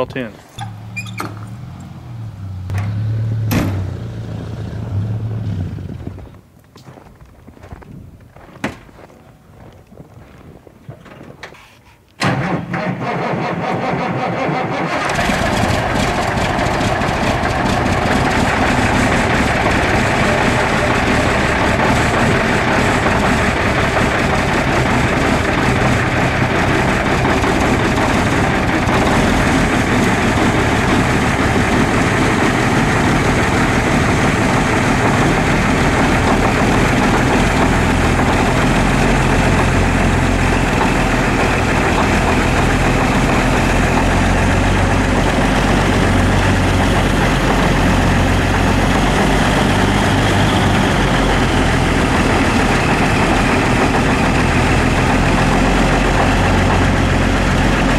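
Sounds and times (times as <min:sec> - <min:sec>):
diesel truck engine idling: 0:00.0 - 0:05.4, 0:15.0 - 0:57.9.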